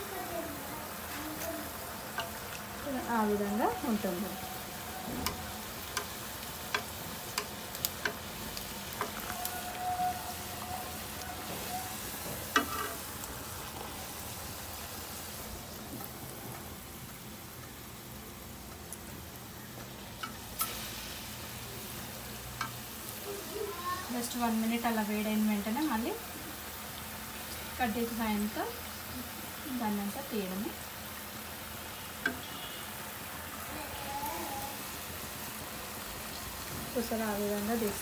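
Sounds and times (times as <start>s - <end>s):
batter sizzling in hot oil: 0.0s - 38.0s.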